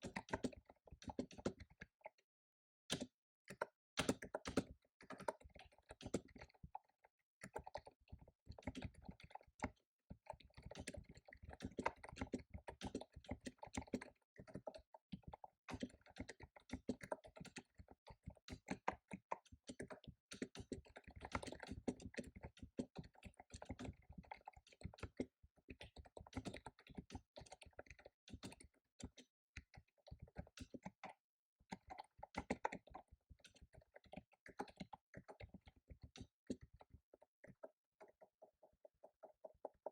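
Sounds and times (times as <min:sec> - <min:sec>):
fast typing on keyboard: 0:00.0 - 0:01.8, 0:02.9 - 0:39.9.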